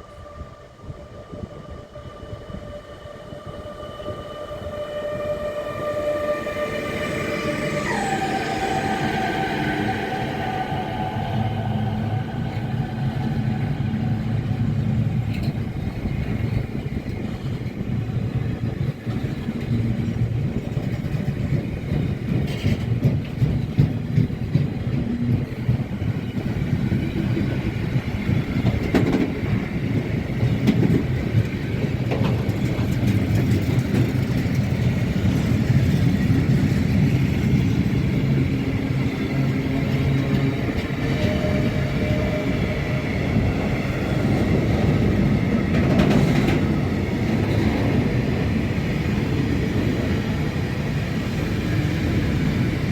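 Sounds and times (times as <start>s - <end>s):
train wheels rumbling: 0.0s - 52.9s.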